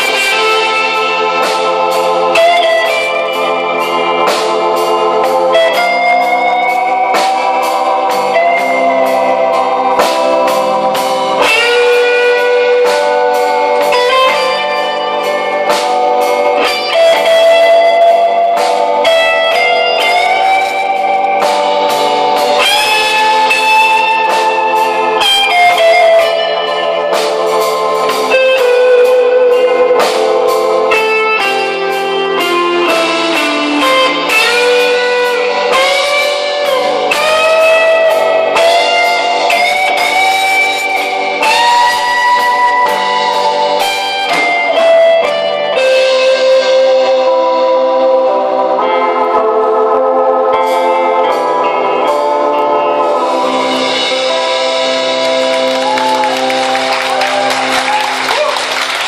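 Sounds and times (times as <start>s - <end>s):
steady drum beat: 0.0s - 45.9s, 53.1s - 59.0s
bass guitar: 0.0s - 59.0s
electric guitar lead melody: 0.0s - 59.0s.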